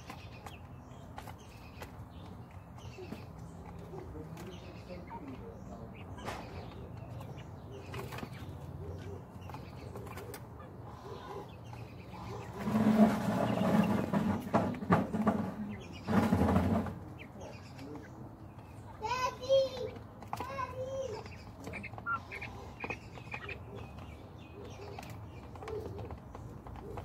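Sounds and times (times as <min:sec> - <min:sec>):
quail flapping and scuffling in straw: 0:00.0 - 0:27.0.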